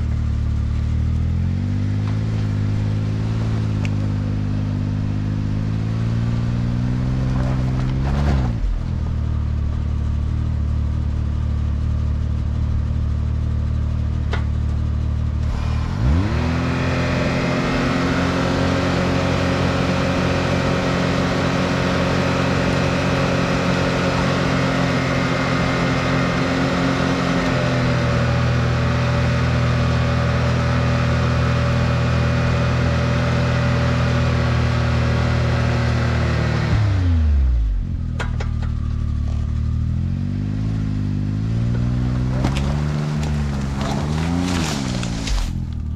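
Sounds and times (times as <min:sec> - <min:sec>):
engine revving: 0:00.0 - 0:45.9.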